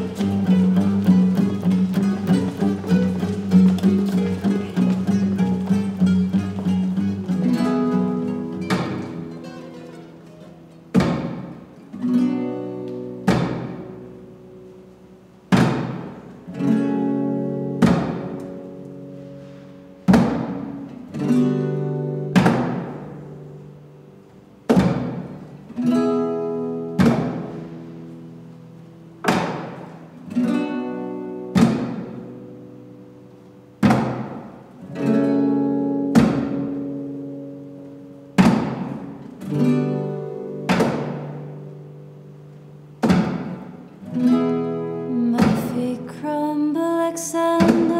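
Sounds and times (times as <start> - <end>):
guitar strumming slow chords: 0.0 - 47.9.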